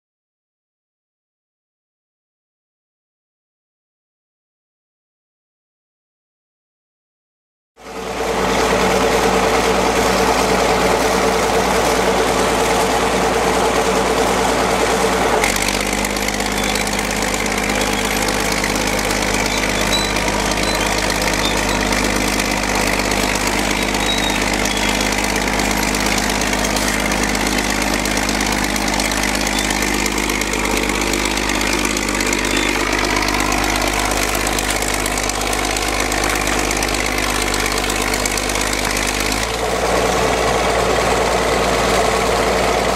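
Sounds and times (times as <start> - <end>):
bulldozer diesel engine running: 7.8 - 42.9.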